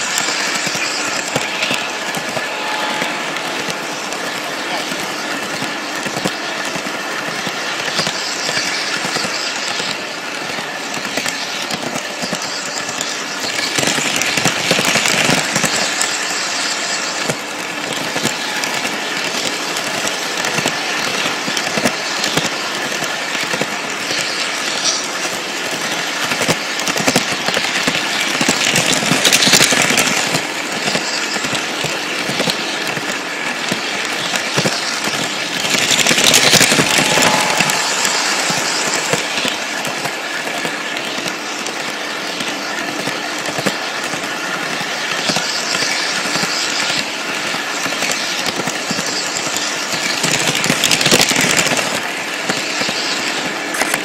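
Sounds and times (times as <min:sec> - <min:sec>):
toy train whirring and rattling: 0:00.0 - 0:54.0
wheels clicking over rails: 0:00.0 - 0:54.0.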